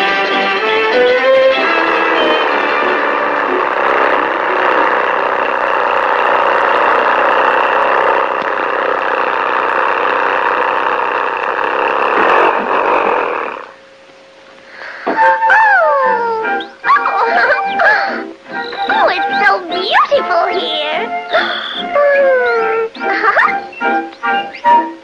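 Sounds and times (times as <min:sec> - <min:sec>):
cartoon car engine running: 0:00.0 - 0:13.8, 0:15.3 - 0:25.0.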